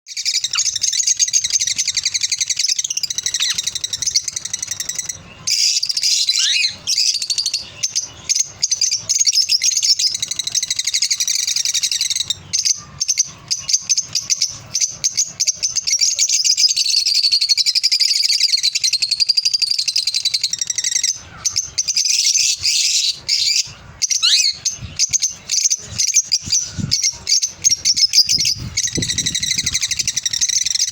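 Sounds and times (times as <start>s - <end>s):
parrots chattering and chirping: 0.1s - 30.9s.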